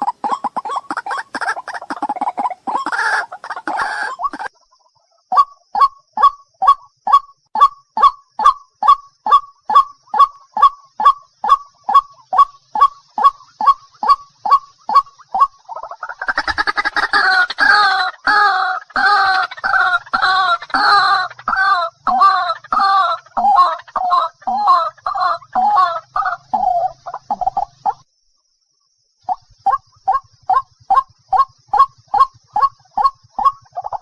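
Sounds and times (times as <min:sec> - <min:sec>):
waterhen calling: 0:00.0 - 0:28.0, 0:29.3 - 0:34.0.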